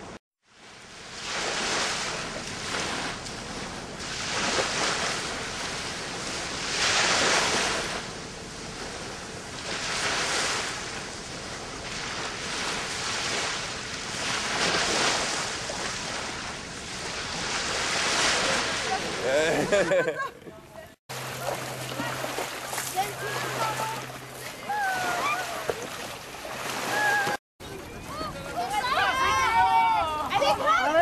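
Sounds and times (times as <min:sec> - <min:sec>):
waves washing in: 0:00.0 - 0:31.0.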